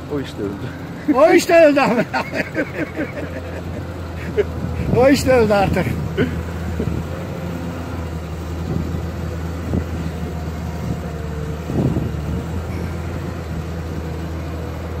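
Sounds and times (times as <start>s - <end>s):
heavy diesel engine idling: 0.0s - 15.0s.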